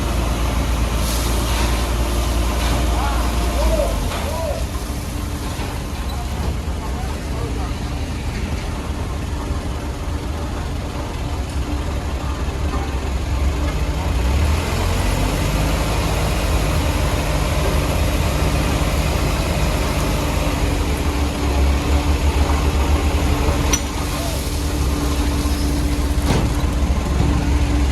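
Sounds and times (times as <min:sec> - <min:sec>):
diesel construction machinery running: 0:00.0 - 0:27.9.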